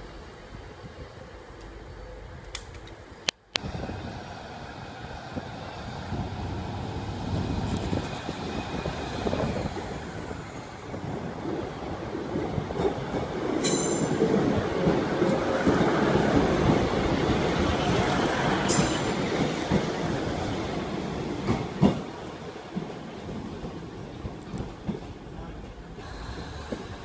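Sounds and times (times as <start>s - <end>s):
diesel train rolling past: 0.0s - 27.0s.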